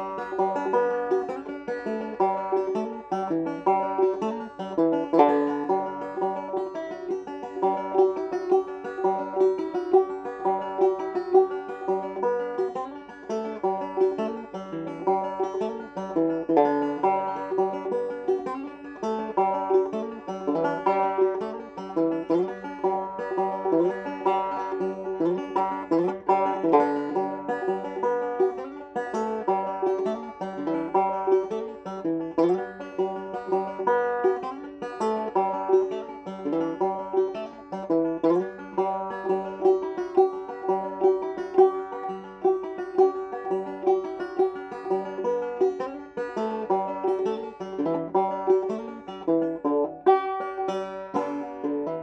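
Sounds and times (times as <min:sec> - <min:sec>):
banjo playing a reel: 0:00.0 - 0:52.0.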